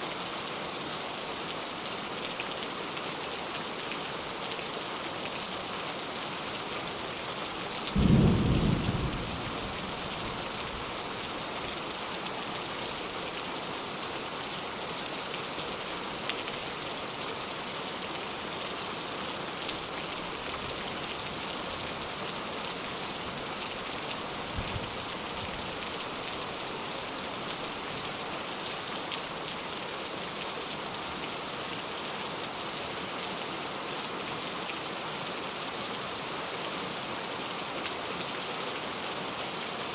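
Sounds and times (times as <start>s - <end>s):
steady rain on a porch: 0.0s - 39.9s.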